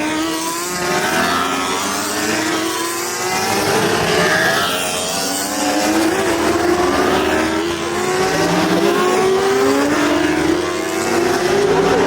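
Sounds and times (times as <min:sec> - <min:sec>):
motorcycle engines accelerating: 0:00.0 - 0:12.0.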